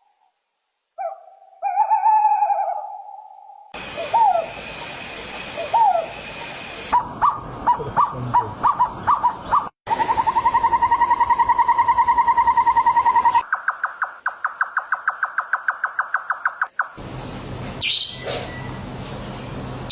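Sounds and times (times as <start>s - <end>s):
rising and falling bird calls: 1.0s - 17.0s.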